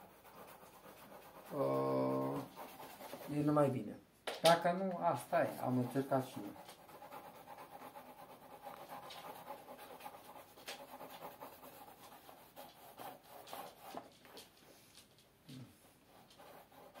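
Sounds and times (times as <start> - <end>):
pencil scratching on paper: 0.0 - 3.7, 5.2 - 14.8, 16.0 - 17.0.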